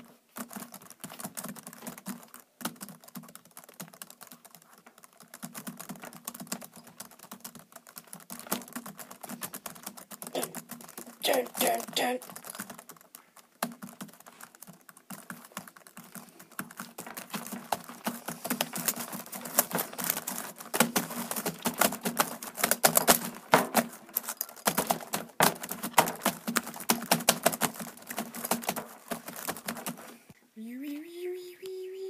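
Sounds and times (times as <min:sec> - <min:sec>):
fast typing on keyboard: 0:00.0 - 0:30.2.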